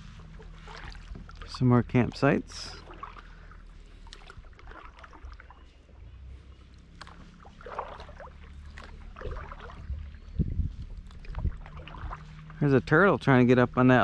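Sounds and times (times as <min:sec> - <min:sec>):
paddle splashes and drips: 0:00.0 - 0:13.4.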